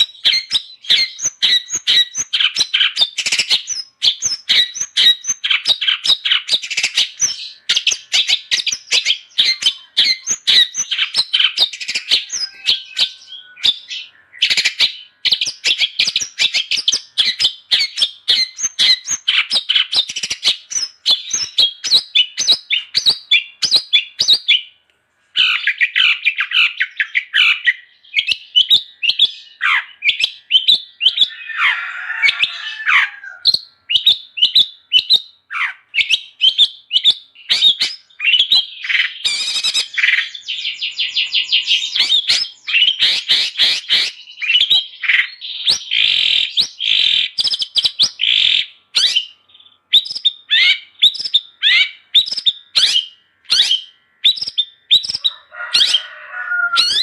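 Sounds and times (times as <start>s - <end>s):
bird harsh chatter: 0.0s - 24.6s, 25.4s - 57.0s
bird chirps and whistles: 0.0s - 24.7s, 25.4s - 57.0s.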